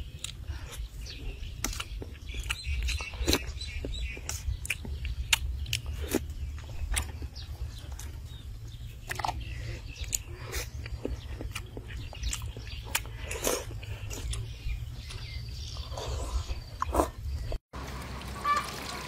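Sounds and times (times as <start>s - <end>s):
person chewing: 0.0s - 8.2s, 9.0s - 17.3s.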